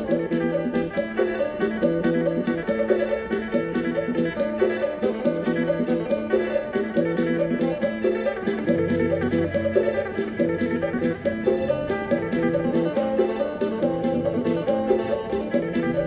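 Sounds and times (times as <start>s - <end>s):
plucked lute melody: 0.0s - 16.0s.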